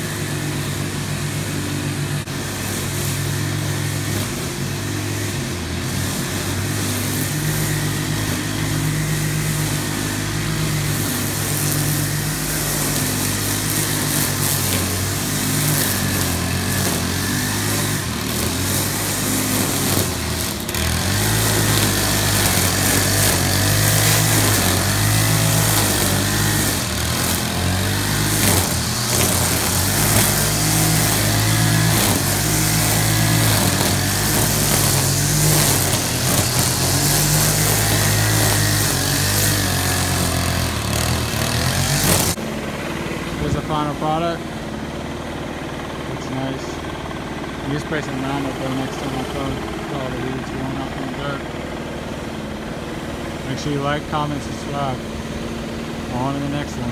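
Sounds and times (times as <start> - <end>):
string trimmer engine revving: 0.0 - 56.9.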